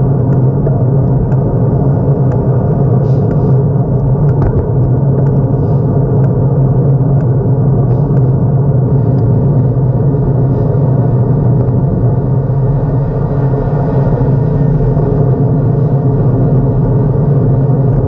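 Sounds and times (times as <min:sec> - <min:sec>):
loud road rumble: 0:00.0 - 0:18.0.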